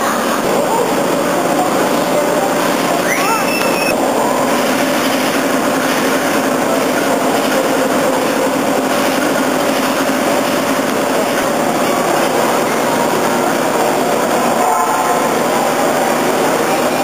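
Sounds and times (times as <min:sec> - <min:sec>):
pumping engine running: 0:00.0 - 0:17.0.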